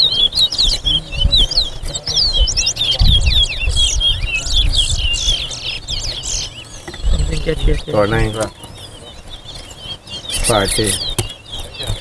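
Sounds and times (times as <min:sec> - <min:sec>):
finches singing whistled notes: 0:00.0 - 0:12.0.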